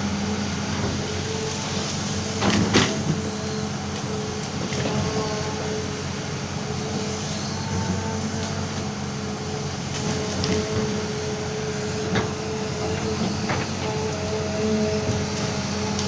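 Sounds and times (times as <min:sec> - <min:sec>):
excavator engine running: 0:00.0 - 0:16.0
hydraulic whine: 0:00.0 - 0:16.0.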